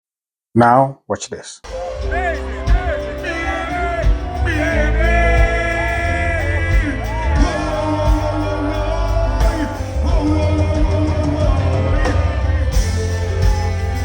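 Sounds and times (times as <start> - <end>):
dancehall music: 1.6 - 14.0
heavy pounding bass: 1.7 - 14.0
person singing long notes: 1.7 - 14.0.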